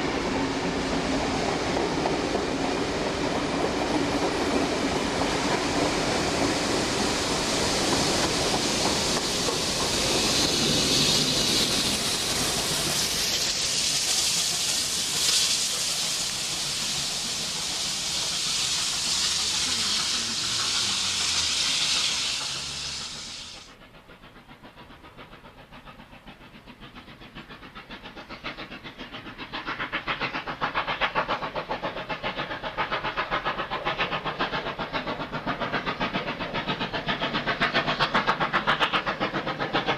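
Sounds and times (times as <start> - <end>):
rhythmic beat of moving train: 0.0 - 39.9
steam locomotive blowing off steam: 0.0 - 39.9.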